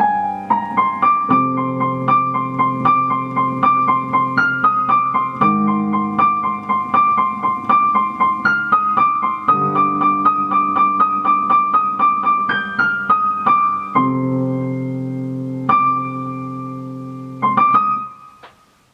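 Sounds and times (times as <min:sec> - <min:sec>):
piano music: 0:00.0 - 0:18.5.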